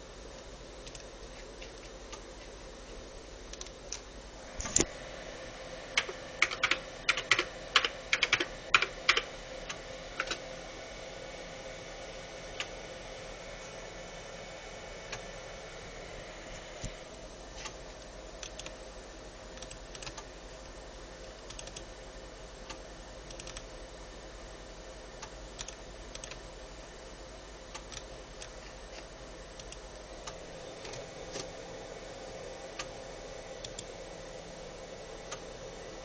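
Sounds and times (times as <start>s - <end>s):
electrical hum and hiss: 0.0s - 36.0s.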